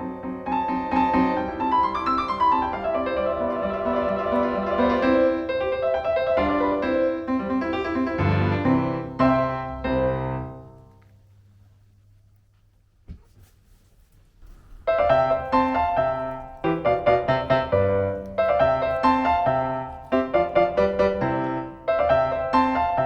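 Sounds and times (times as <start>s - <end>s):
solo piano: 0.0s - 11.5s, 14.5s - 23.0s.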